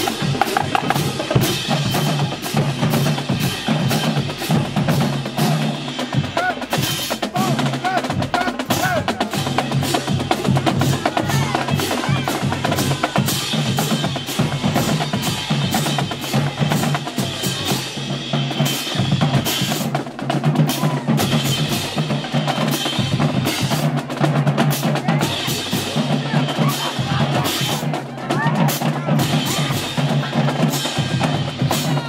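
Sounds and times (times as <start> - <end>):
bass drums: 0.0 - 32.0
snare drums: 0.0 - 32.0.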